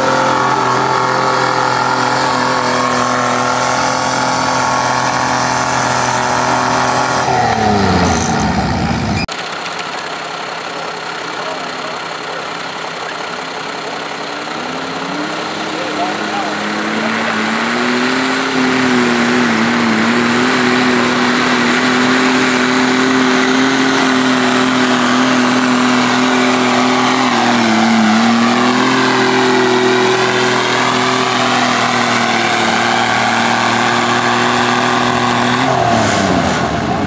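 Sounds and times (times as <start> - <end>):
diesel tractor engine under load: 0.0 - 37.0.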